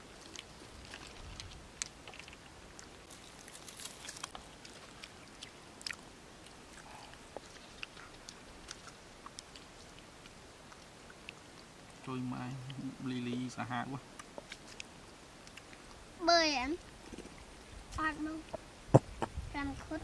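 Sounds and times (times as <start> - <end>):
baby monkeys chewing: 0.0 - 20.0.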